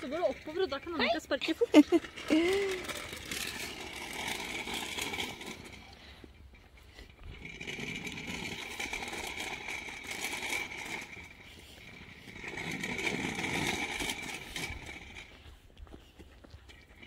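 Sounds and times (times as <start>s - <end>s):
scooter wheels rolling on asphalt: 0.0s - 17.0s.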